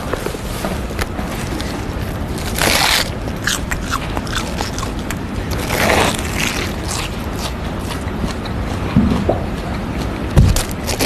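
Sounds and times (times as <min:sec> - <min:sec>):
person crunching chips: 0:00.0 - 0:08.9, 0:10.4 - 0:11.0.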